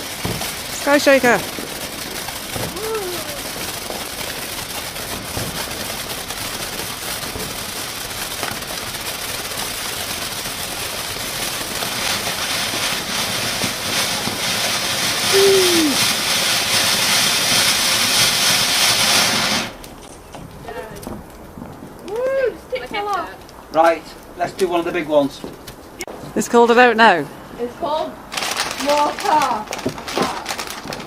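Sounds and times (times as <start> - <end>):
firework hissing crackle: 0.0 - 31.0.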